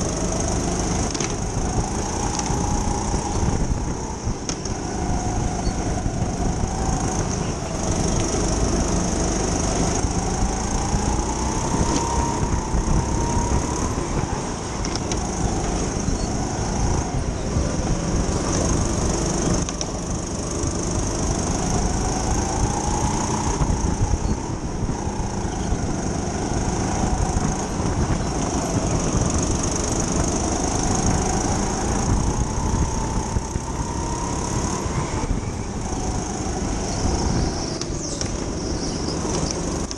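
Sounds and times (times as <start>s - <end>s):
chassis and tyre rumble: 0.0s - 39.9s
kart motor whining: 0.0s - 39.9s.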